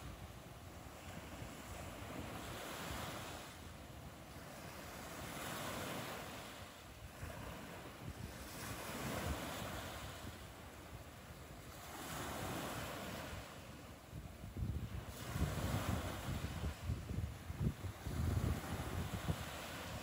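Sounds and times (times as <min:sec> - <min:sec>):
small waves breaking on beach: 0:00.0 - 0:20.0.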